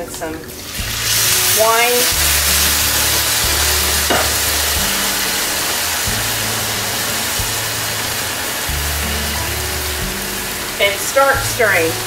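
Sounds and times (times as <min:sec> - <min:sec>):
wine sizzling in hot pan: 0:00.0 - 0:12.0.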